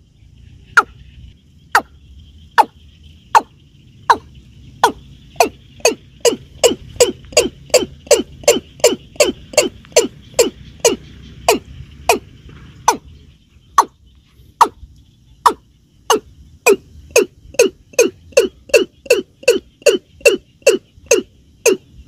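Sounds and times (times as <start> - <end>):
bird calling hollow notes: 0.0 - 22.0.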